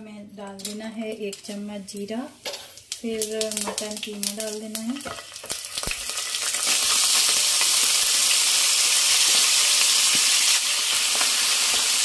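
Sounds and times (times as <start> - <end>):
meat sizzling in hot oil: 2.3 - 12.0.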